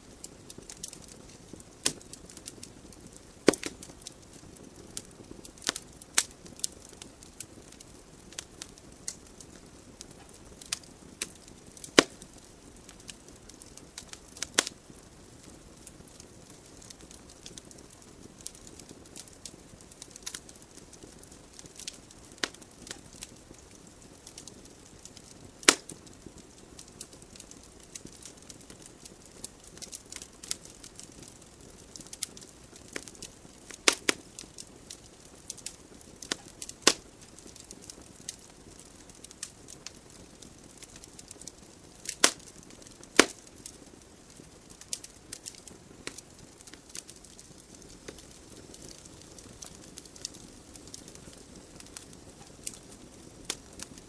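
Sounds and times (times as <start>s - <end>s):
burning logs crackling and popping: 0.0s - 54.0s
fire hissing: 0.0s - 54.0s.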